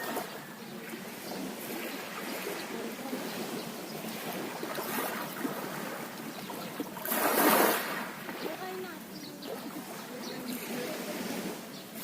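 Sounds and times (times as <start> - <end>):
sea waves lapping at shore: 0.0 - 12.0.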